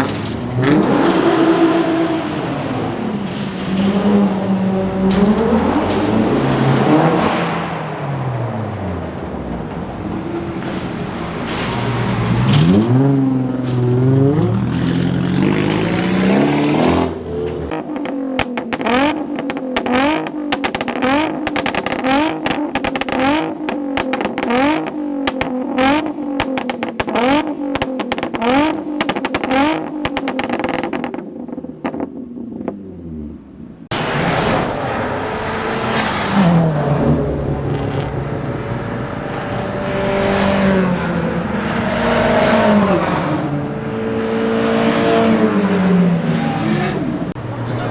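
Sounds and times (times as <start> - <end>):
car engine revving hard: 0.0 - 31.2, 38.5 - 47.4
car accelerating away: 0.0 - 47.9
exhaust crackles: 0.0 - 47.9.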